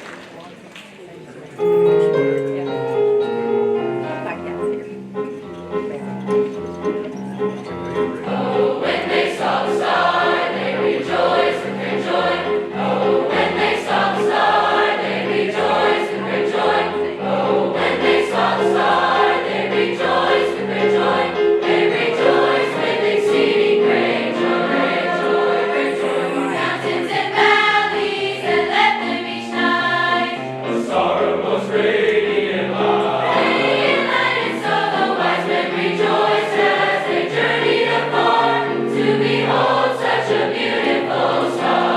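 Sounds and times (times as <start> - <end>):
instrumental accompaniment: 1.6 - 41.9
choir singing: 6.0 - 41.9.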